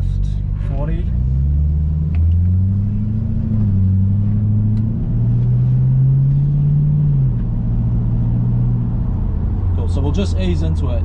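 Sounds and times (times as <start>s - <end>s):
car engine running inside cabin: 0.0s - 11.0s.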